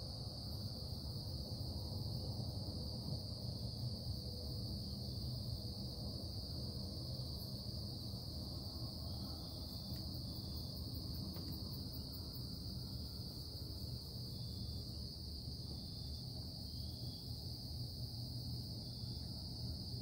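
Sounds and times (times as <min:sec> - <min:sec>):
machinery droning hum: 0:00.0 - 0:20.0.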